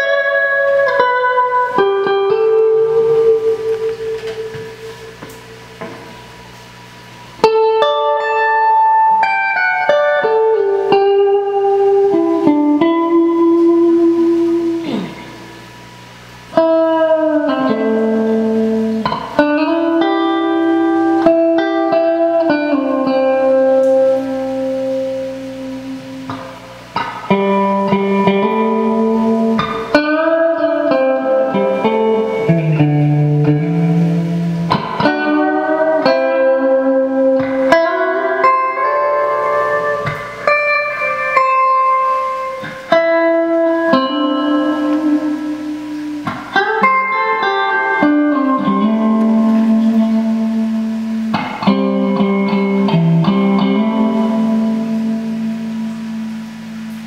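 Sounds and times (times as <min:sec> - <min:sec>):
electric guitar notes and chords: 0:00.0 - 0:57.0.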